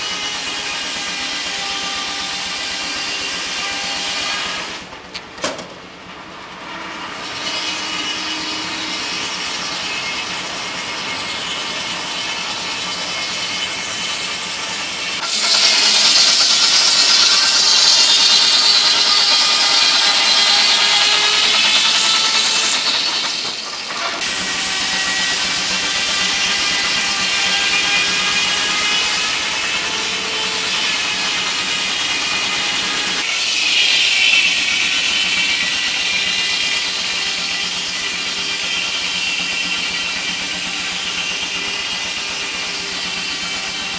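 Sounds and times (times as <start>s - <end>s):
circular saw blade whining: 6.6s - 43.9s.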